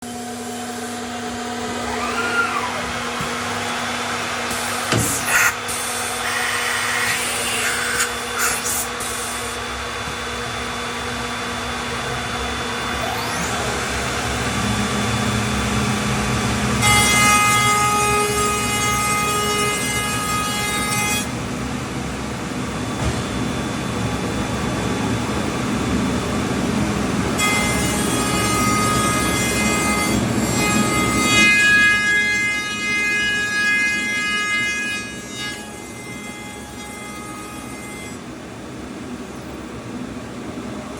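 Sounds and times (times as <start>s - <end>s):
high whine of steady tones: 0.0s - 40.9s
machine running mechanical noise: 0.0s - 40.9s.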